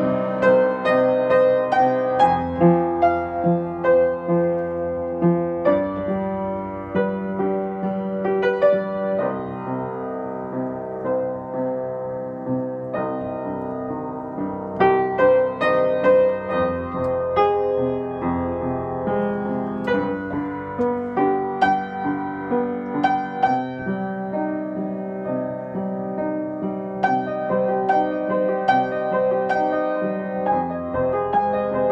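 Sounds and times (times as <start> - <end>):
upright piano playing slowly: 0.0 - 31.9.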